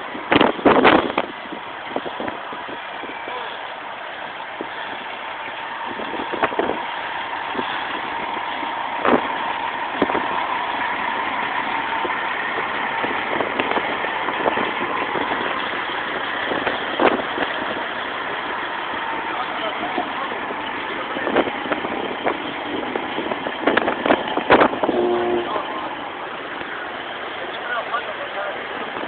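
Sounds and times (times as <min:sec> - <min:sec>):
diesel trucks pulling away: 0:00.0 - 0:29.0
wind buffeting microphone: 0:00.0 - 0:29.0.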